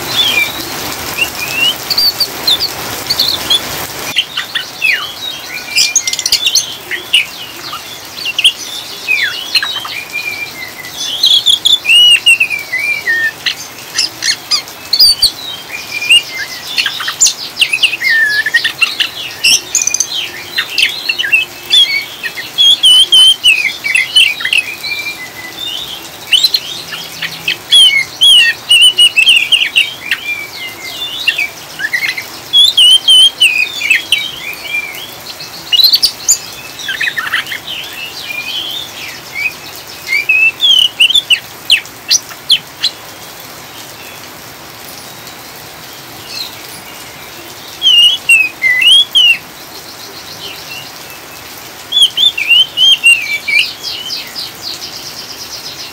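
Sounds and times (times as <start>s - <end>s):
bird singing twittering phrases: 0.0s - 55.9s
rain hiss: 0.0s - 55.9s.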